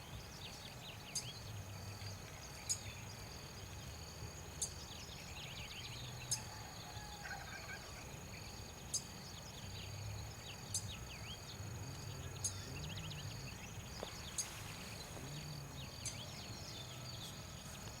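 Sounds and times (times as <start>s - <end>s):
pulsing insect chirp: 0.0s - 18.0s
small birds twittering: 0.0s - 18.0s
high insect trill: 0.1s - 18.0s.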